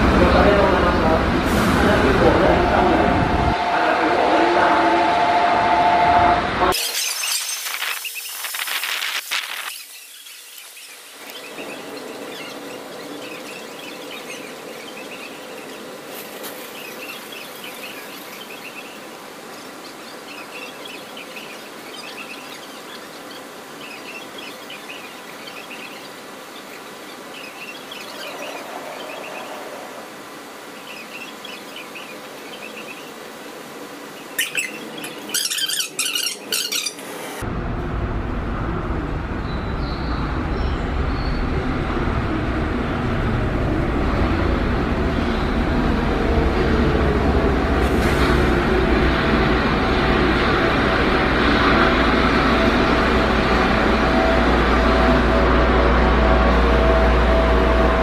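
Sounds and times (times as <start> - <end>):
station platform hum: 0.0 - 7.0, 11.0 - 58.0.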